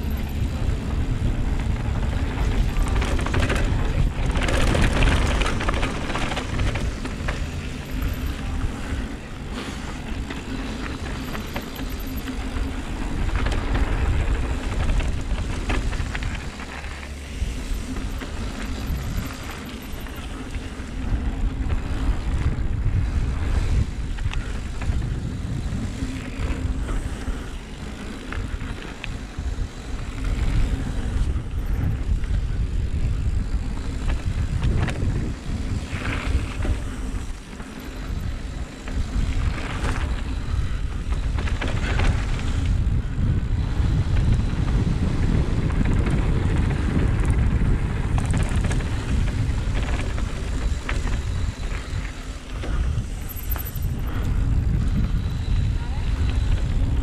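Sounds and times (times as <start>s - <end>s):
bike clattering over bumps: 0.0s - 57.0s
bike tyres rolling on dirt: 0.0s - 57.0s
wind rumbling on microphone: 0.0s - 57.0s.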